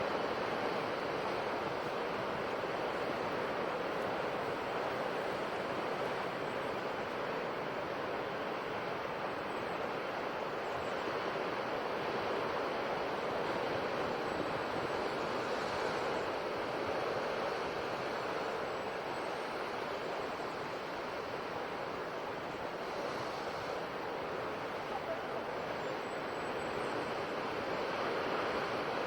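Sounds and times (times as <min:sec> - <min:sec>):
sea surf washing on shore: 0:00.0 - 0:29.0.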